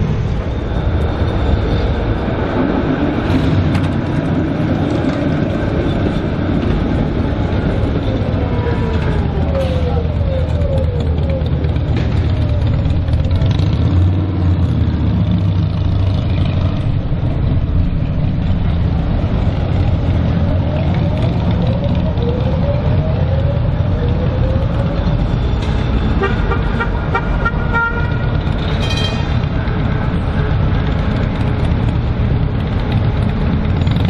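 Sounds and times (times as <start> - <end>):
trams and traffic rumble: 0.0 - 34.0.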